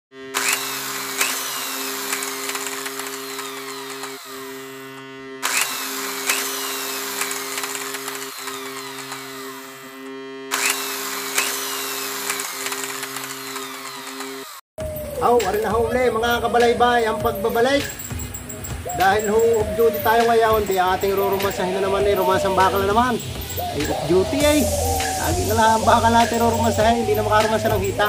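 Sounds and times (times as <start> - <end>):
power tool motor hum with whine: 0.1 - 28.0.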